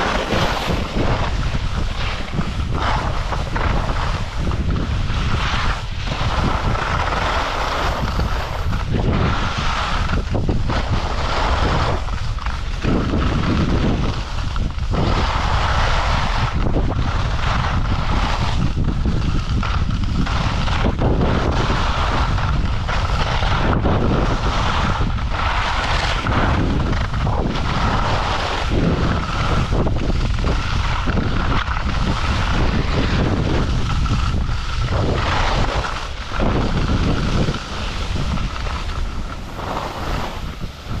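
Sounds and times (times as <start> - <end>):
skis scraping on snow: 0.0 - 41.0
wind buffeting microphone: 0.0 - 41.0.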